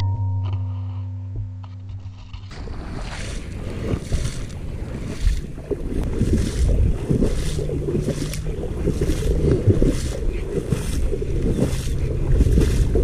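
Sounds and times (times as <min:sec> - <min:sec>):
wind buffeting microphone: 0:02.1 - 0:13.0
footsteps splashing in water: 0:02.4 - 0:13.0.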